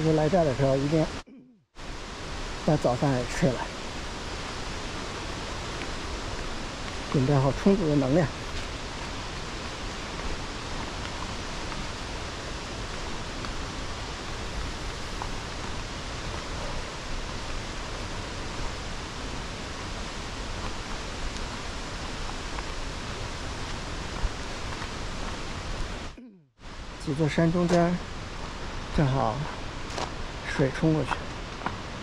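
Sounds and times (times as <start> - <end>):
rushing water: 1.8 - 32.0.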